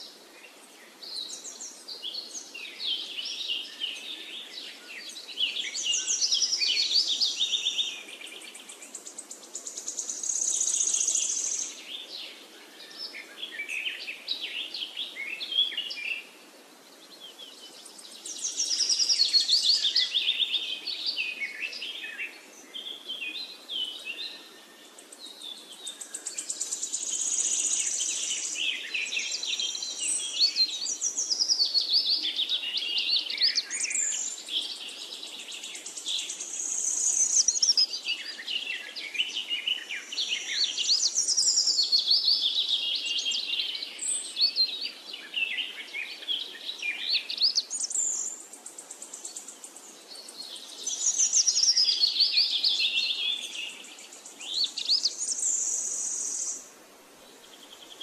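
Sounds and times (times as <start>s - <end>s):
birds chirping and trilling: 0.0s - 56.7s.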